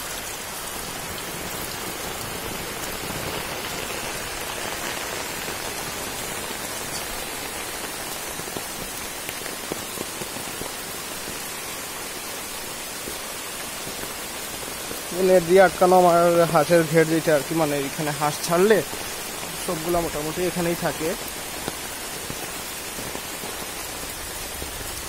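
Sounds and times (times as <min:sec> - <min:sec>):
rain falling on wet ground: 0:00.0 - 0:25.0.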